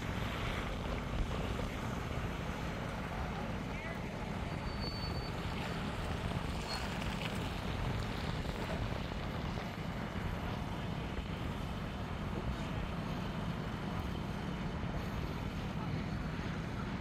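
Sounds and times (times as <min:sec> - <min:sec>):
fire truck engines running: 0:00.0 - 0:17.0
wind rumble on microphone: 0:00.0 - 0:17.0.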